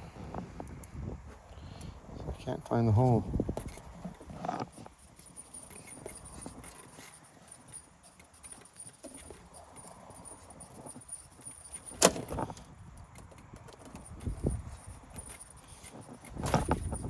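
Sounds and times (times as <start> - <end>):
metal hardware clicks and rattles: 2.9 - 17.0.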